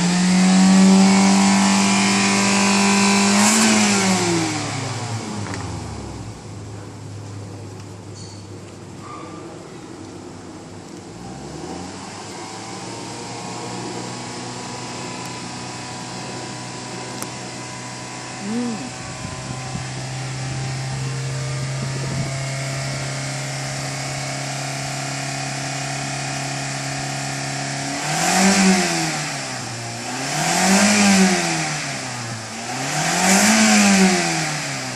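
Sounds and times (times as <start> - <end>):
car engine revving: 0.0 - 7.4, 10.9 - 34.9.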